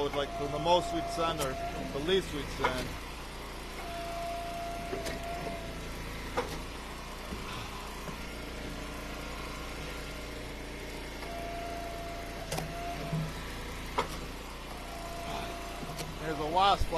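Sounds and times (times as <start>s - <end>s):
gas engine running: 0.0s - 16.9s
hydraulic whine: 0.0s - 16.9s.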